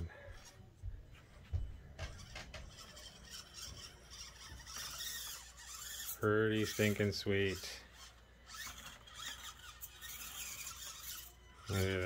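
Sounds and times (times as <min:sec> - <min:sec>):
toy crawler scraping: 0:02.0 - 0:12.0.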